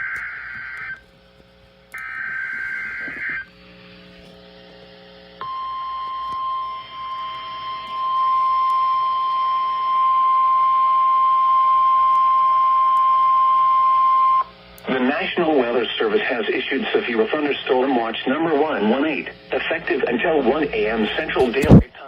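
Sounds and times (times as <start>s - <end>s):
steady warning alarm tone: 0.0s - 1.0s, 1.9s - 3.6s, 5.4s - 21.8s.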